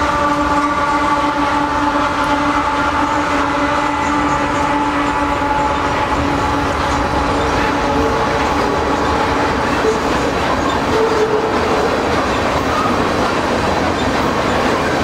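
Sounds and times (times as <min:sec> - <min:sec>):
diesel locomotive engine drone: 0:00.0 - 0:15.0
locomotive held tones: 0:00.0 - 0:15.0
tank car wheels rumbling on rails: 0:02.2 - 0:15.0.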